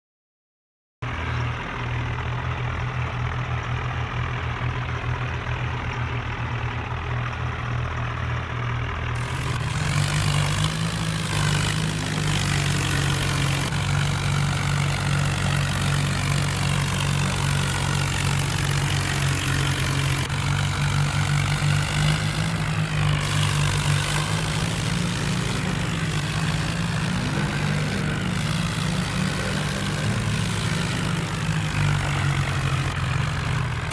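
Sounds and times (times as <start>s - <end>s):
tractor engine running: 1.0s - 33.9s.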